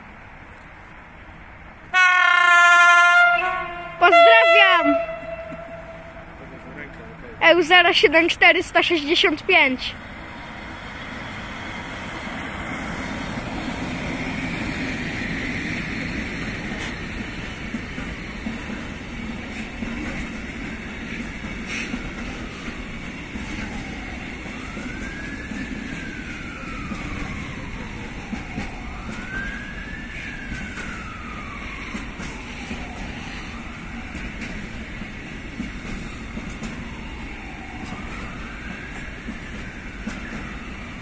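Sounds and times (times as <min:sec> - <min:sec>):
train wheels rumbling and rattling: 0:04.6 - 0:41.0.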